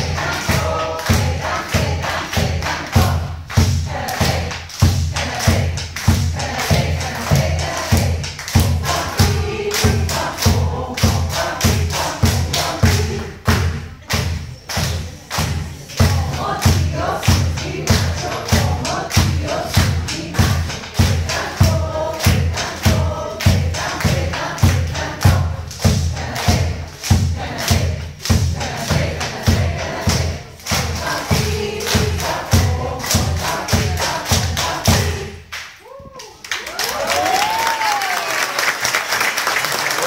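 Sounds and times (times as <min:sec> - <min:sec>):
mixed choir singing: 0:00.0 - 0:35.5
steady low thud beat: 0:00.0 - 0:35.5.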